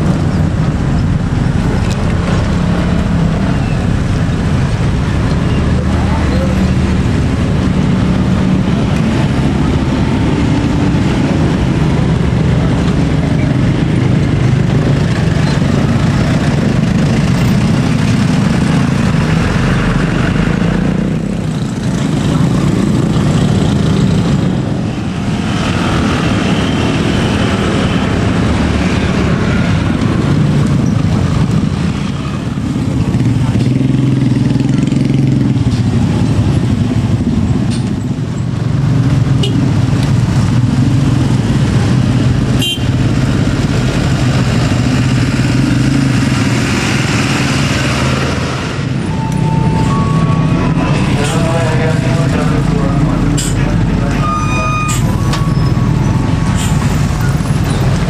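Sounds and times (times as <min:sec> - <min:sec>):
diesel trucks passing: 0:00.0 - 0:58.0
motorcycles passing: 0:00.0 - 0:58.0.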